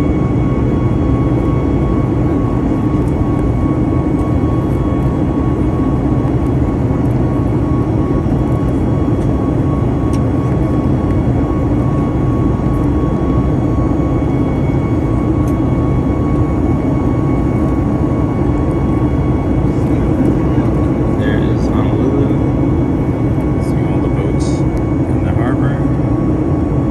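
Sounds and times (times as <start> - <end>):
airplane engine and airflow rumble: 0.0 - 26.9
thin steady whine: 0.0 - 26.9.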